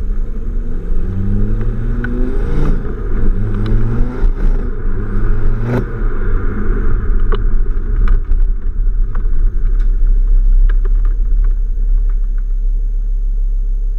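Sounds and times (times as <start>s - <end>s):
car engine idling: 0.0s - 13.9s
exhaust pops and crackles: 1.4s - 13.9s.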